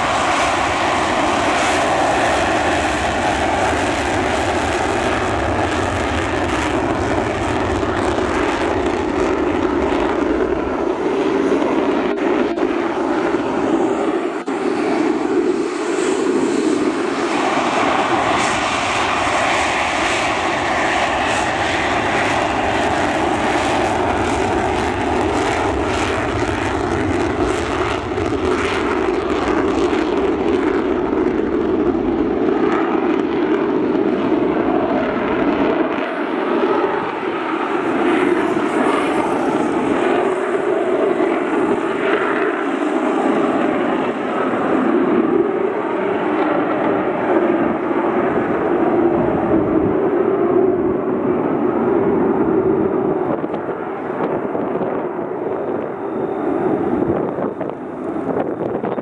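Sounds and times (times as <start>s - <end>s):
jet engine roar: 0.0s - 59.0s.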